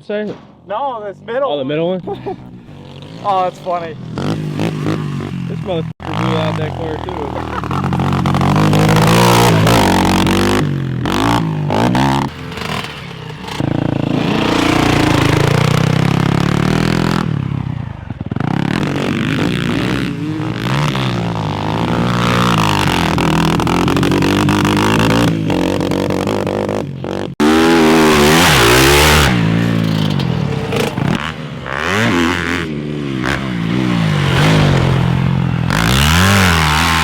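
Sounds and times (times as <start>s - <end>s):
dirt bike engine revving: 2.0s - 37.0s.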